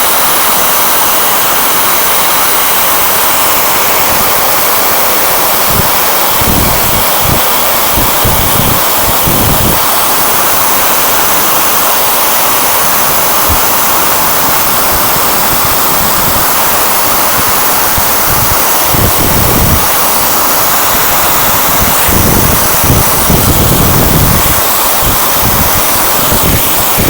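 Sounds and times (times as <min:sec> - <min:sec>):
hair dryer running: 0:00.0 - 0:27.0
airflow buffeting microphone: 0:01.6 - 0:27.0.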